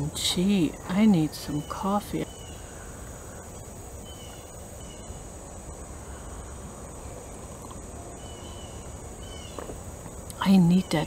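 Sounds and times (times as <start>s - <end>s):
high-pitched insect trill: 0.0s - 11.0s
low steady hum: 0.0s - 11.0s.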